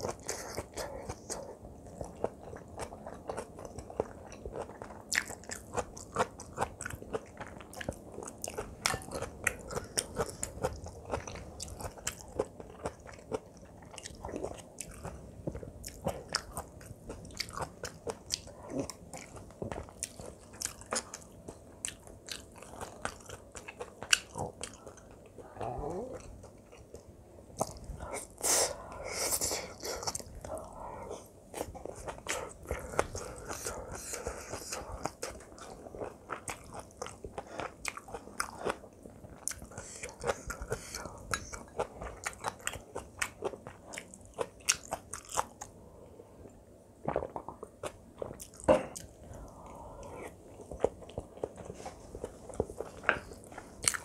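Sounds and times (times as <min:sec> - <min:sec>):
wet chewing with crunches: 0:00.0 - 0:45.8, 0:47.0 - 0:54.0.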